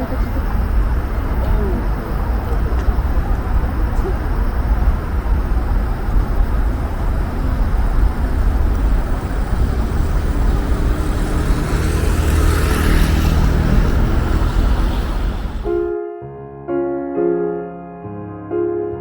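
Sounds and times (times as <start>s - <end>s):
road noise: 0.0s - 16.0s
wind rumbling on microphone: 0.0s - 16.0s.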